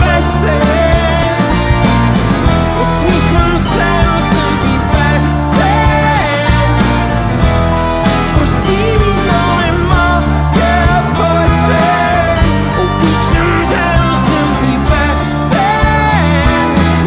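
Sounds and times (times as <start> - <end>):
man singing: 0.0 - 7.4, 8.2 - 17.0
bass guitar: 0.0 - 17.0
drums: 0.0 - 17.0
guitar: 0.0 - 17.0.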